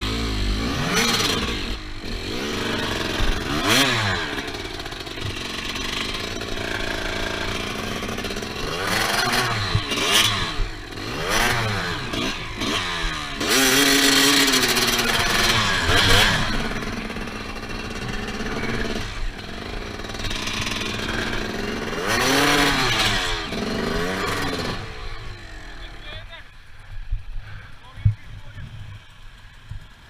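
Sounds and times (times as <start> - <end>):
motorcycle engine revving hard: 0.0 - 26.4.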